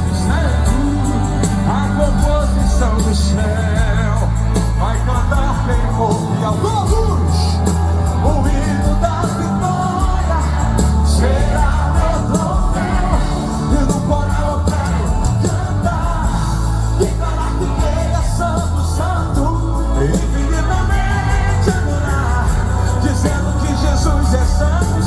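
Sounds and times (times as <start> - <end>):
gospel band music: 0.0 - 25.0
person singing: 0.0 - 25.0.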